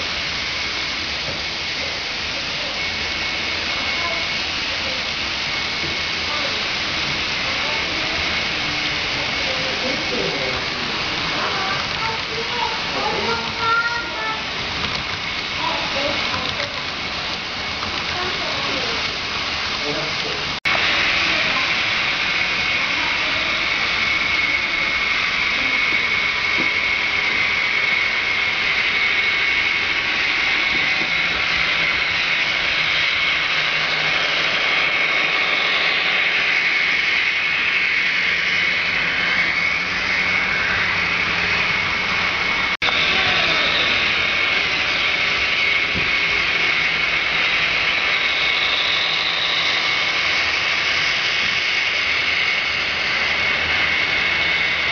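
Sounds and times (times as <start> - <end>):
high-pitched whine: 0.0 - 54.9
model train motors whirring: 0.0 - 54.9.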